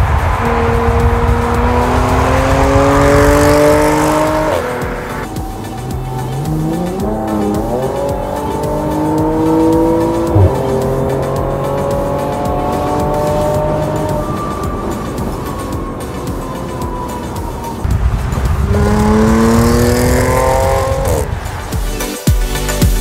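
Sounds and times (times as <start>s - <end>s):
car engine accelerating: 0.0s - 21.7s.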